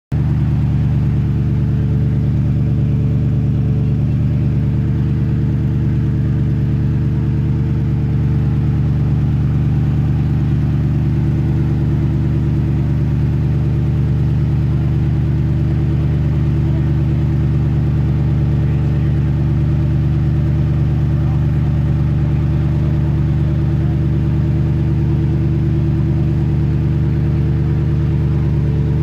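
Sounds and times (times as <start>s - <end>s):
car engine idling: 0.1s - 29.0s.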